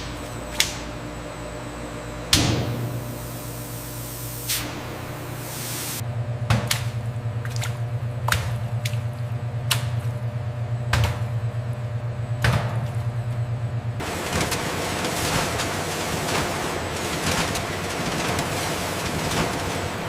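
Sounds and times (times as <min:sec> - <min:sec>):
machinery humming: 0:00.0 - 0:20.0
noisier machine sound: 0:00.0 - 0:20.0.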